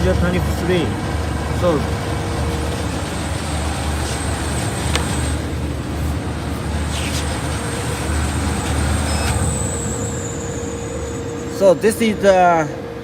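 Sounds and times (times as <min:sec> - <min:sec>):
machine motor hum: 0:00.0 - 0:12.8
faint high whine: 0:00.7 - 0:13.0.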